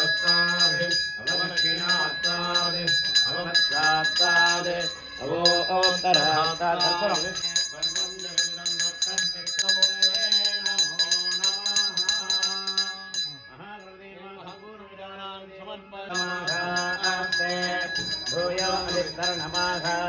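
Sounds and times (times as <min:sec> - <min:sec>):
hand bell rung rapidly: 0:00.0 - 0:13.6, 0:16.1 - 0:20.0
man chanting: 0:00.0 - 0:20.0.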